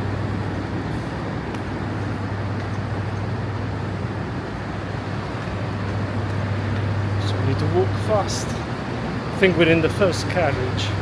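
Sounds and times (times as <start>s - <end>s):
station noise: 0.0s - 11.0s
train engine humming: 0.0s - 11.0s.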